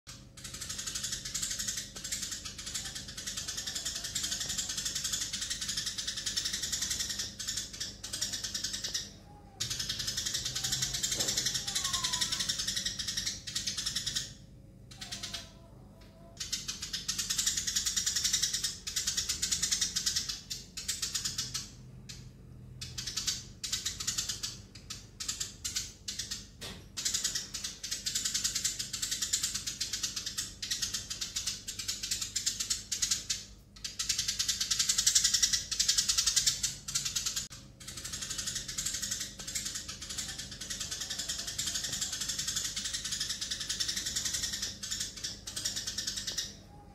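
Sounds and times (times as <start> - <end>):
sparrows chattering: 0.1 - 46.9.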